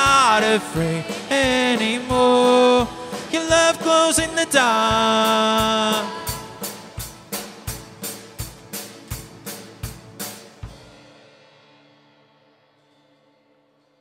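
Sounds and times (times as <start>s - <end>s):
drum kit beat: 0.0s - 11.3s
guitar and keyboard chords: 0.0s - 13.3s.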